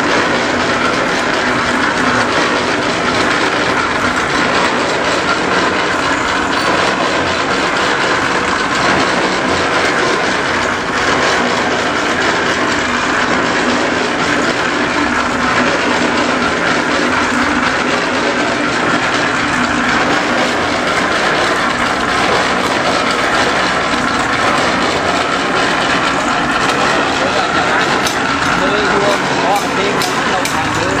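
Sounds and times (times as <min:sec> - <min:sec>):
machine rattling and humming: 0:00.0 - 0:31.0.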